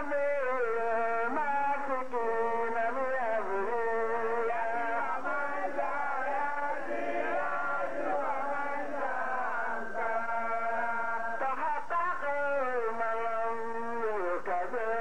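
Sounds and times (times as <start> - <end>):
man singing chant through loudspeaker: 0.0 - 15.0.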